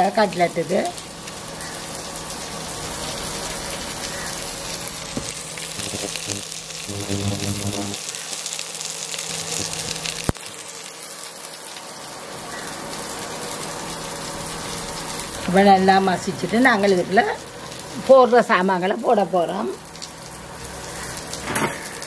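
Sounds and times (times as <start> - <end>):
onions frying in hot oil: 0.0 - 22.0.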